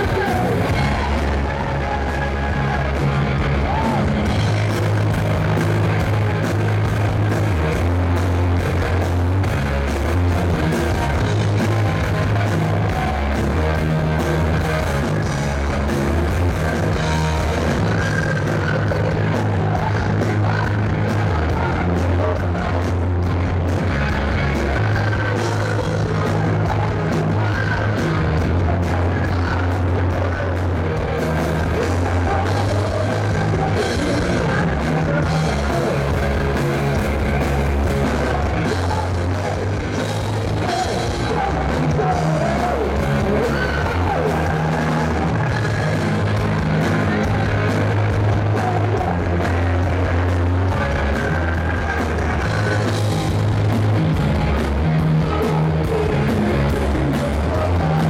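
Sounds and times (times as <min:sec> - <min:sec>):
man singing: 0:00.0 - 0:09.0, 0:10.3 - 0:53.8, 0:54.6 - 0:58.0
bass guitar: 0:00.0 - 0:58.0
drums: 0:00.0 - 0:58.0
electric guitars: 0:00.0 - 0:58.0.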